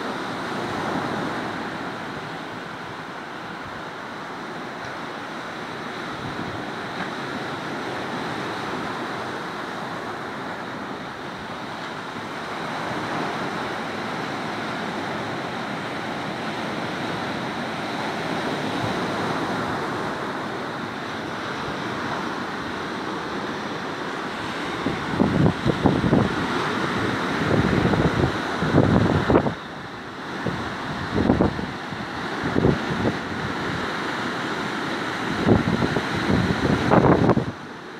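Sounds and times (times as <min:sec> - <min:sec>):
sea surf breaking on shore: 0:00.0 - 0:37.9.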